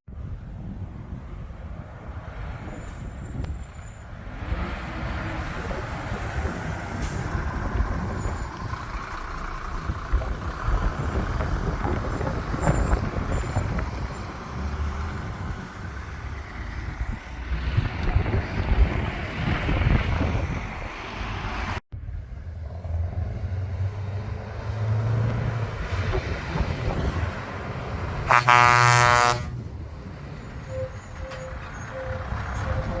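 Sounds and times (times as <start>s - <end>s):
heavy trucks diesel engines: 0.2s - 33.0s.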